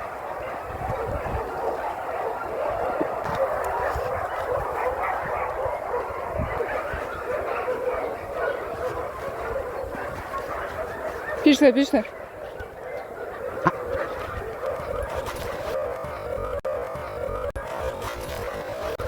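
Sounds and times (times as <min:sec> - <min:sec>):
dogs barking: 0:00.0 - 0:19.0.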